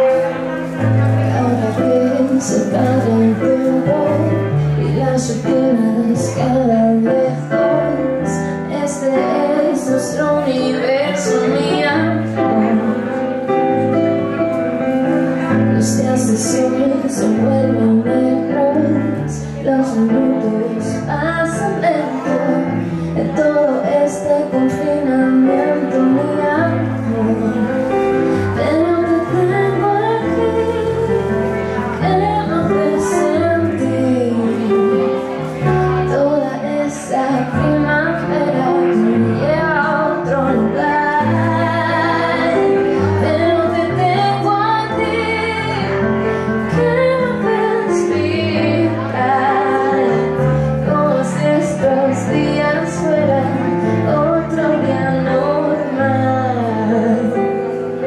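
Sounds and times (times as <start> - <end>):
digital piano chords: 0.0 - 58.0
woman singing into microphone: 0.0 - 58.0.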